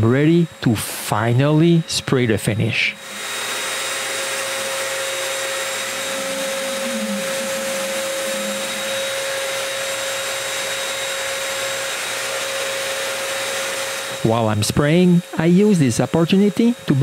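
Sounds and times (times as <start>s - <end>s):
spray equipment whining: 0.0s - 17.0s.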